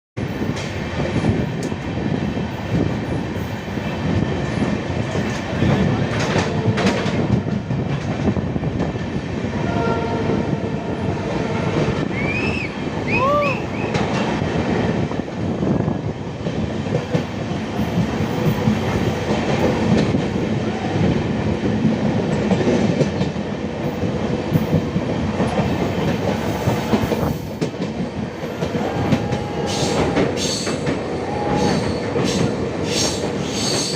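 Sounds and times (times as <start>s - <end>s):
train rumble: 0.2s - 33.9s.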